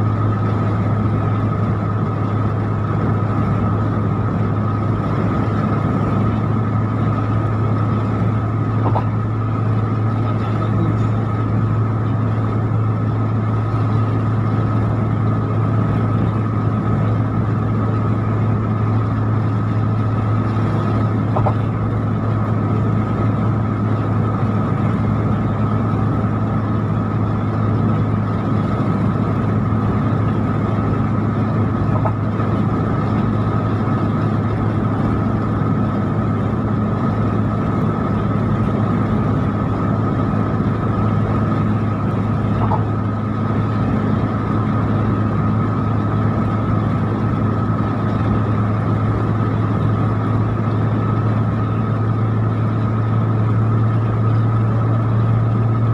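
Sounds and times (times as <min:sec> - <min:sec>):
car engine and road drone: 0:00.0 - 0:55.9
thin whine: 0:00.0 - 0:55.9.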